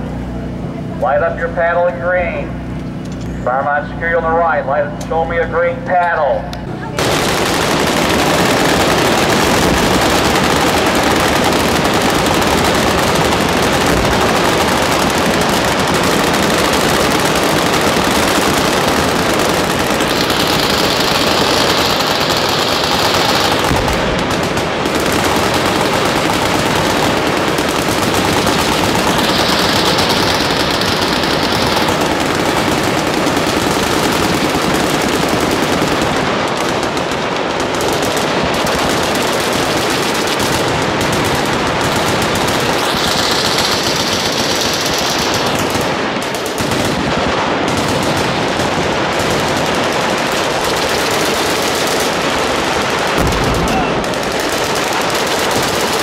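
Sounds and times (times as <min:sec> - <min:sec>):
massed machine gun fire: 0:07.0 - 0:56.0.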